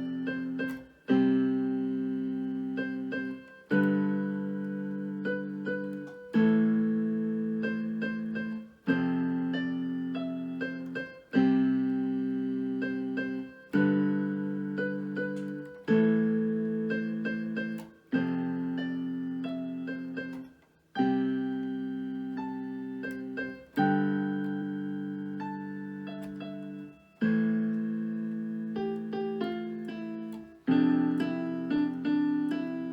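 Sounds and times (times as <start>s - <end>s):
slow solo piano piece: 0.0s - 32.9s.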